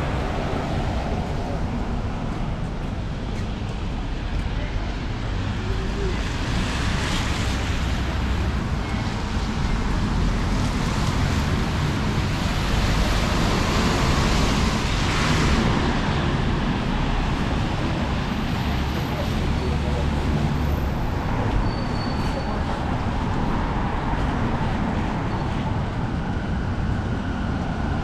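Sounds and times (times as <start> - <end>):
traffic on wet pavement: 0.0 - 28.0.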